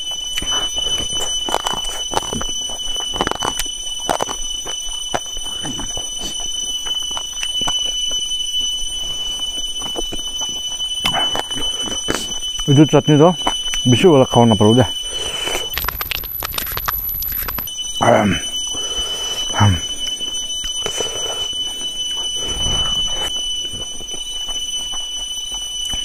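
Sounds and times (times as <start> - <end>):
steady high-pitched tone: 0.0 - 26.0.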